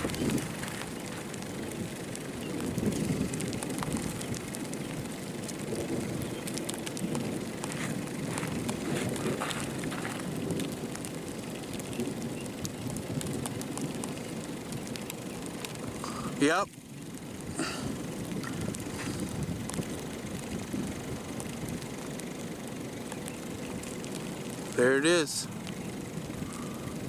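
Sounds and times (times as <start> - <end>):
sharp ticks of raindrops: 0.0 - 27.0
steady rain: 0.0 - 27.0
wind: 0.0 - 27.0.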